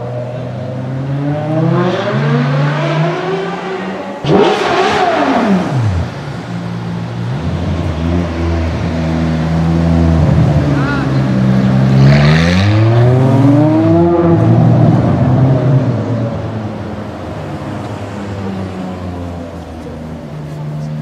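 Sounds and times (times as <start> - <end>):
sports car engine revving: 0.1 - 18.0.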